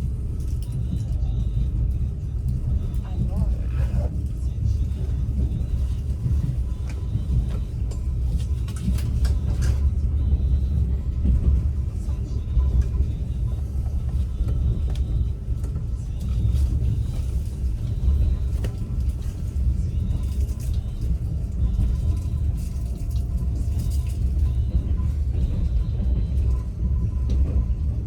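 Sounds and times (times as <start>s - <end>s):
train rumble inside carriage: 0.0s - 28.0s.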